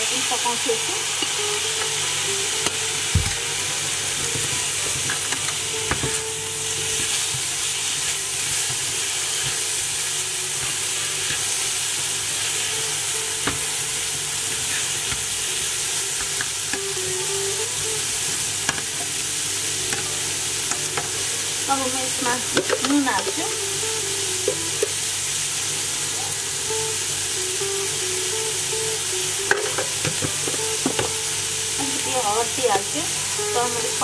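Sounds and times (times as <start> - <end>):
vegetables sizzling in frying pan: 0.0 - 34.0.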